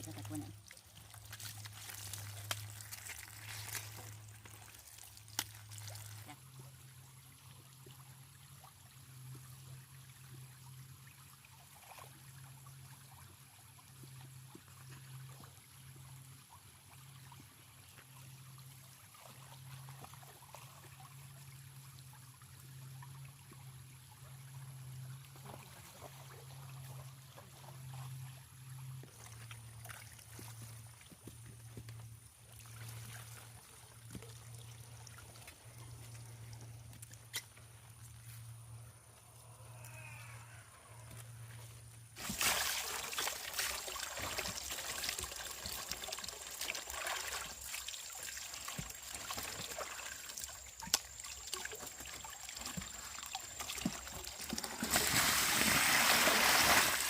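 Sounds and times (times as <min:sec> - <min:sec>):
stream trickling: 0:00.0 - 0:38.8, 0:40.9 - 0:57.0.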